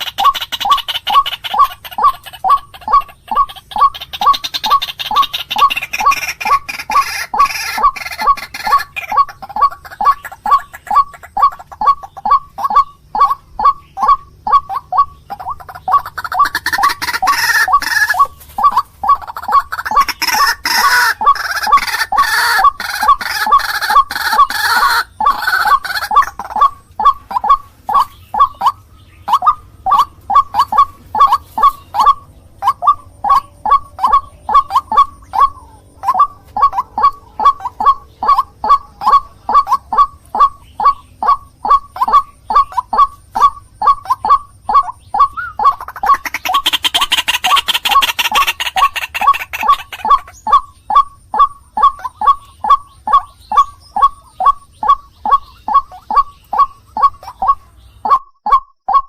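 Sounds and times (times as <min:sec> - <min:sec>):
bird calling repeated notes: 0:00.0 - 0:59.0.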